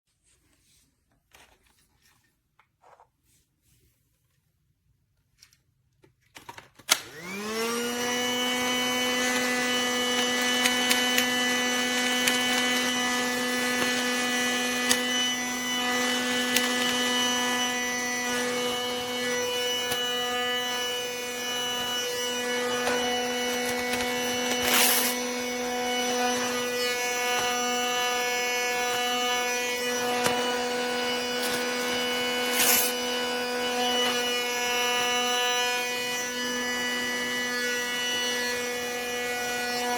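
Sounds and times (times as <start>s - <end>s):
toy vacuum motor whine: 6.4s - 39.9s.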